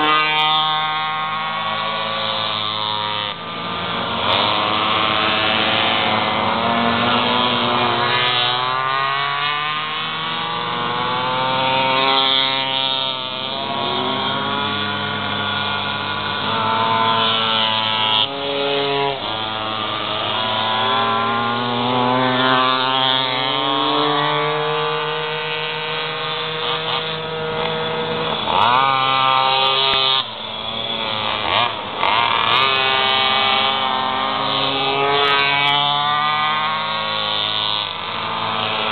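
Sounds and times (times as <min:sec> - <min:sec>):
small motorbike engines revving: 0:00.0 - 0:38.9.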